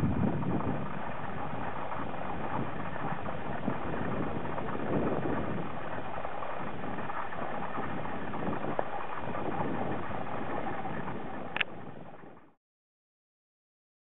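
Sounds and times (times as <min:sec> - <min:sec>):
wind on microphone: 0:00.0 - 0:12.5.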